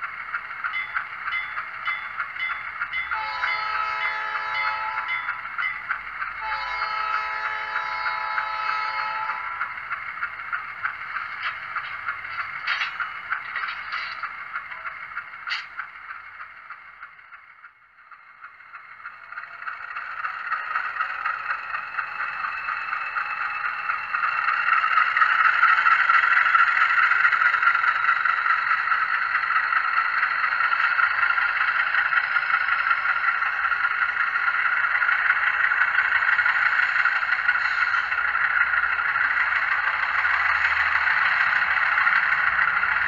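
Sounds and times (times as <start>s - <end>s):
diesel locomotive engine from small speaker: 0.0s - 43.0s.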